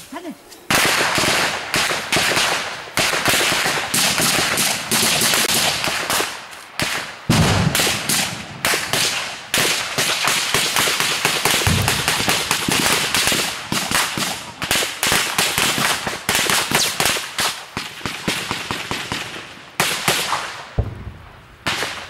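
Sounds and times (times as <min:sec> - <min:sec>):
small-arms gunfire: 0:00.7 - 0:21.0.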